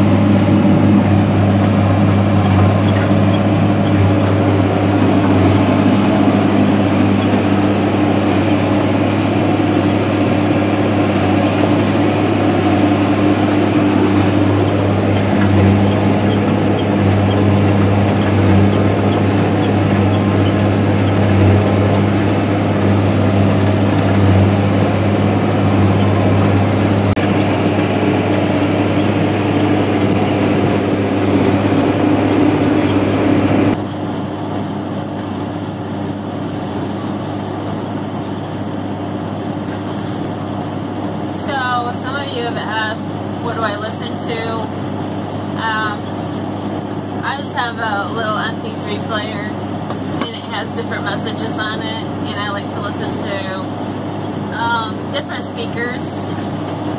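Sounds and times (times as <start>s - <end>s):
tractor engine running under load: 0.0s - 56.9s.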